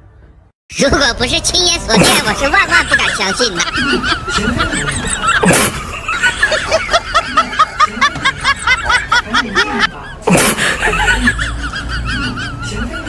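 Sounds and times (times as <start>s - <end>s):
high-pitched snickering laugh: 2.0s - 13.0s.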